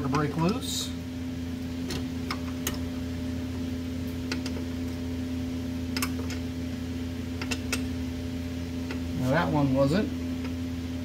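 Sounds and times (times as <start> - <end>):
heater humming: 0.0 - 11.0.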